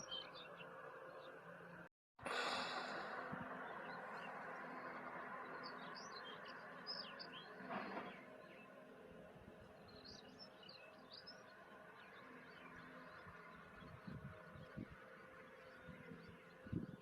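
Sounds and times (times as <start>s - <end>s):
small birds chirping: 0.0s - 1.7s, 2.3s - 17.0s.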